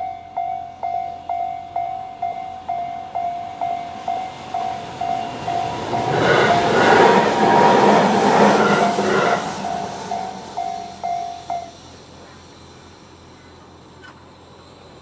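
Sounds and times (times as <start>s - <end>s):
level crossing warning bell: 0.0s - 12.1s
passing train: 0.0s - 15.0s.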